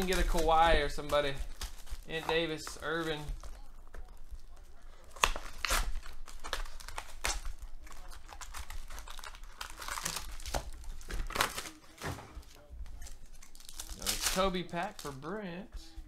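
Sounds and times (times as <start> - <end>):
foil wrappers crinkling: 0.0 - 16.0.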